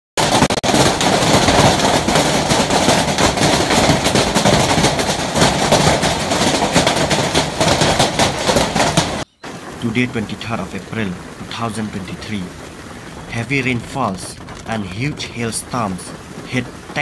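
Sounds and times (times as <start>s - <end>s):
heavy hail clattering: 0.2s - 17.0s.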